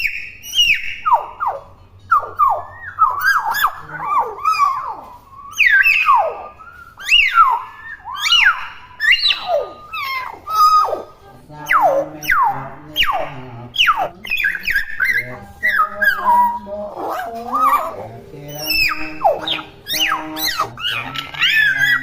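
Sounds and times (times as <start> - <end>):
myna bird whistling: 0.0 - 22.0.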